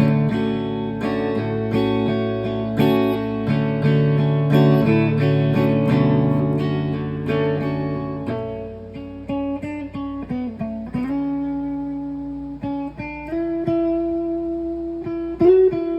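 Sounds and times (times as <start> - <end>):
electric guitar playing: 0.0 - 15.9.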